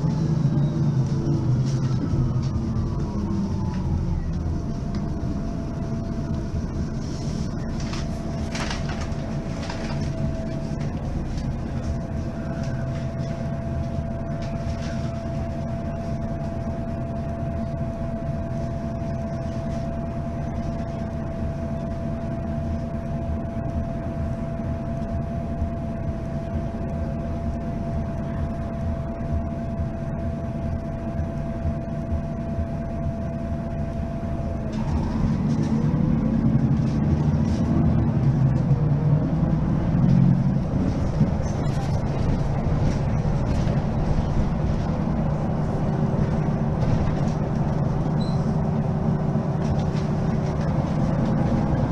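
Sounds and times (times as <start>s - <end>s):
bus diesel engine running: 0.0s - 51.9s
thin steady whine: 0.0s - 51.9s.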